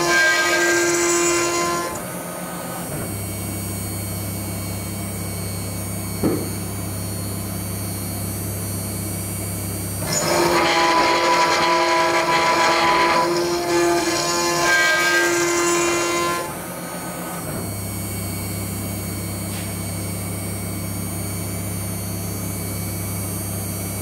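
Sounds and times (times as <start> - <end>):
router cutting steel with high tones: 0.0 - 24.0.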